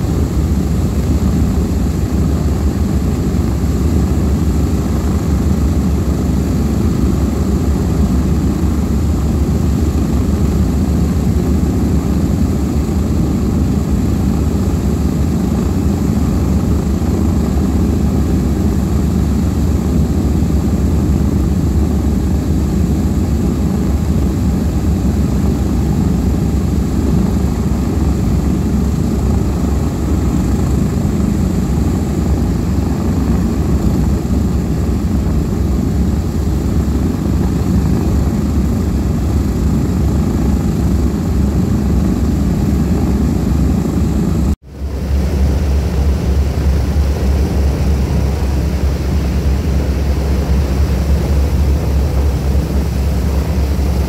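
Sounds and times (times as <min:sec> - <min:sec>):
aircraft propeller engines droning: 0:00.0 - 0:54.0.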